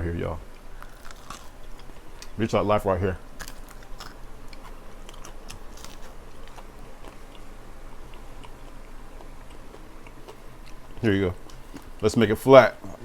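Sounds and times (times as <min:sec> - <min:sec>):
chewing crispy fried chicken: 0:00.4 - 0:13.0.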